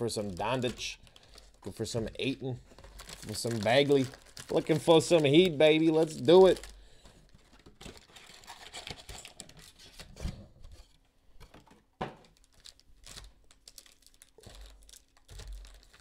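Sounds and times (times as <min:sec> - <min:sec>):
foil card packs crinkling: 0:00.0 - 0:10.8, 0:12.2 - 0:16.0.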